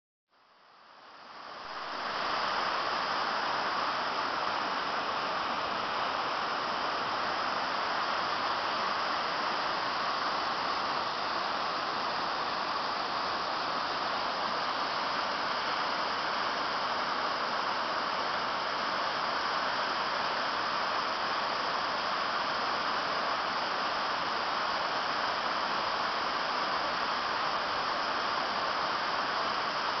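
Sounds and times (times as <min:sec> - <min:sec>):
waterfall rushing: 0:01.6 - 0:30.0.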